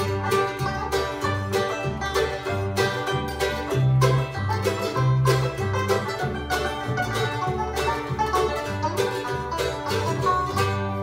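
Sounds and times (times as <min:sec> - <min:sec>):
acoustic guitar picking: 0:00.0 - 0:11.0
banjo picking: 0:00.0 - 0:11.0
upright bass walking line: 0:00.0 - 0:11.0.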